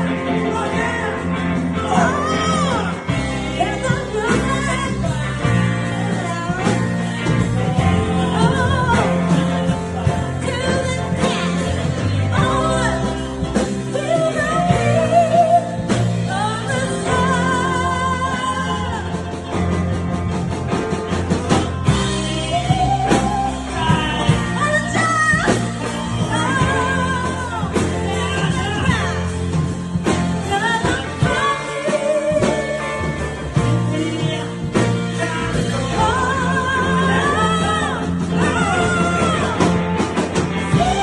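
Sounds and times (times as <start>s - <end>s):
person singing with vibrato: 0.0s - 41.0s
rock ballad band: 0.0s - 41.0s.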